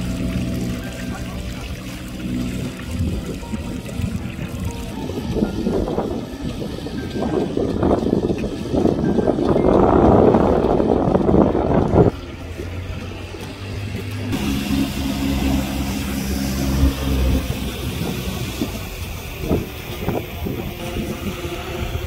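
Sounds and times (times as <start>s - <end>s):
engine droning steadily: 0.0s - 22.0s
wind buffeting the microphone: 0.0s - 22.0s.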